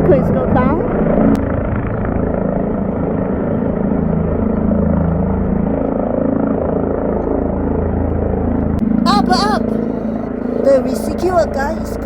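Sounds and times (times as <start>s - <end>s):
helicopter rotor drone: 0.0s - 12.0s.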